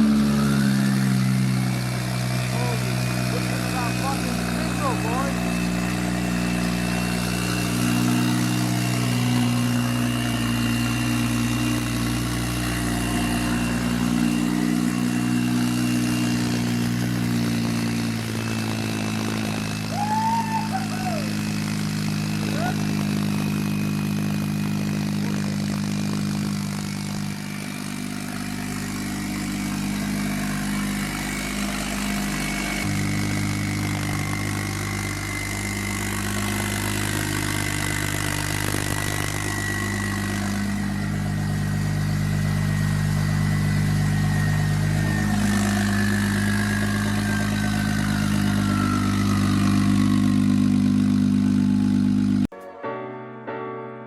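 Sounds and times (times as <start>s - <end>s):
car engine idling: 0.0s - 52.5s.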